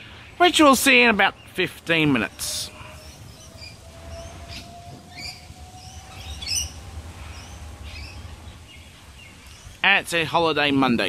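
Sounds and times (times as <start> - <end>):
electric train pulling away: 0.0 - 10.5
birds chirping: 0.0 - 11.0.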